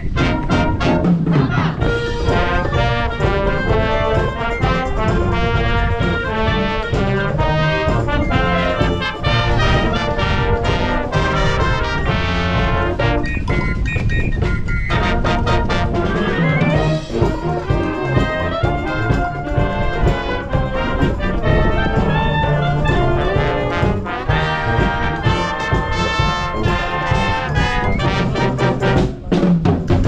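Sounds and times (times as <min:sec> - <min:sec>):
wind buffeting microphone: 0:00.0 - 0:29.3
trumpets and trombones: 0:00.0 - 0:29.4
wind band playing samba: 0:00.0 - 0:30.0.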